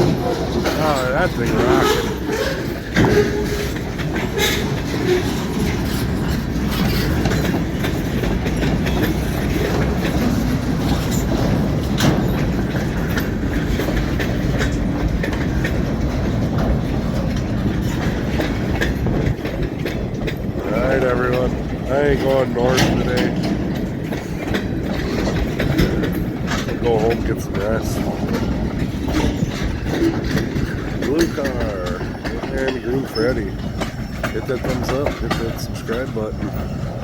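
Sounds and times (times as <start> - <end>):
freight train rumbling by: 0.0 - 37.0
wheels clacking over rail joints: 0.0 - 37.0.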